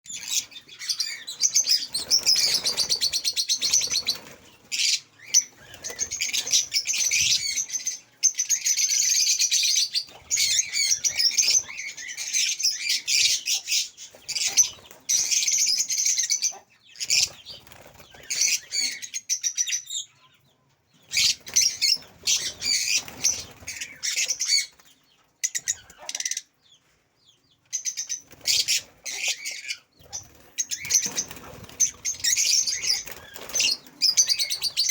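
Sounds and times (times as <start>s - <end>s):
lovebirds chattering: 0.1s - 34.9s.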